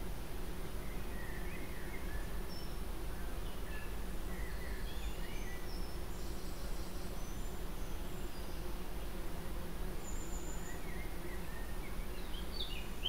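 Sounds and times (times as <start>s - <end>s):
faint bird chirps and whistles: 0.8s - 8.6s, 10.0s - 12.9s.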